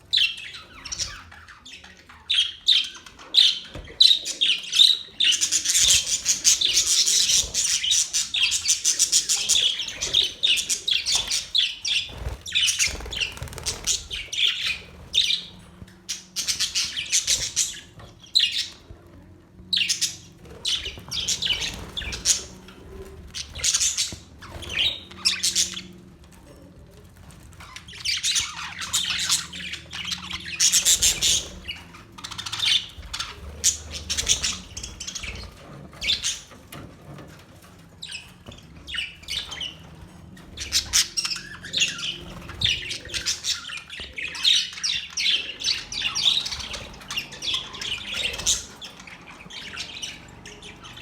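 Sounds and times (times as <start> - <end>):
budgerigars chattering and squawking: 0.0 - 26.5, 27.2 - 51.0.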